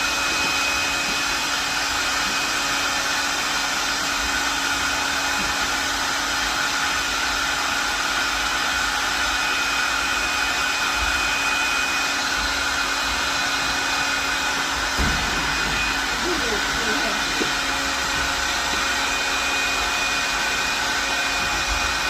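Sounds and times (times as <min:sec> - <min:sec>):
electric air blower whirring: 0:00.0 - 0:22.0.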